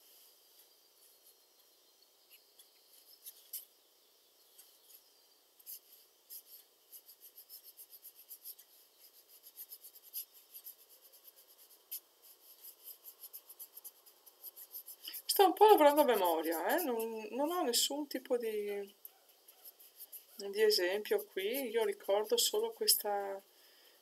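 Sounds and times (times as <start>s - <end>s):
brush scratching on paper: 2.3s - 3.7s, 4.6s - 23.4s.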